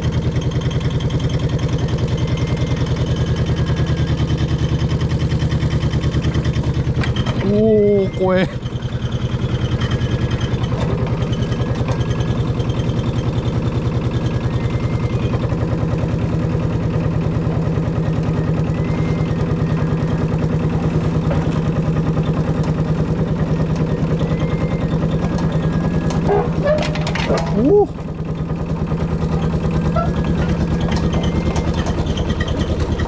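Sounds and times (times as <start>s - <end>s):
diesel engine chugging: 0.0s - 33.0s.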